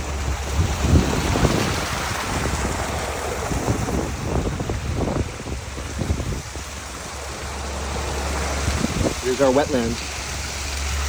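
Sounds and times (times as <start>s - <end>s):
pond waterfall rushing: 0.0s - 11.0s
wind rumbling on microphone: 0.0s - 11.0s.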